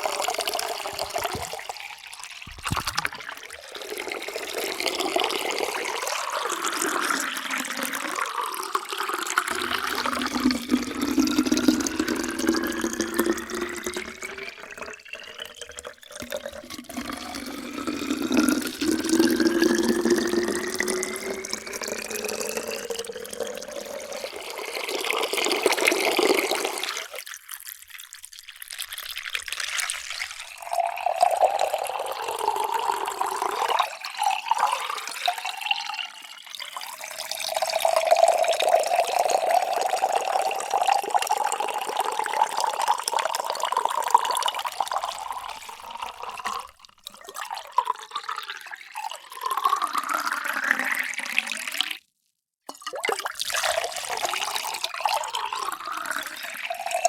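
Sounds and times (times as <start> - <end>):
water pouring into a vessel: 0.0 - 52.1, 52.7 - 57.0.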